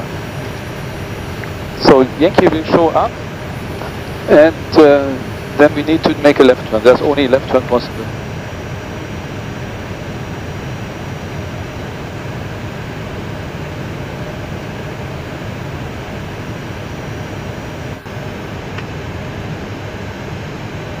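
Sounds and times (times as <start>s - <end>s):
air-conditioning rush of air: 0.0s - 21.0s.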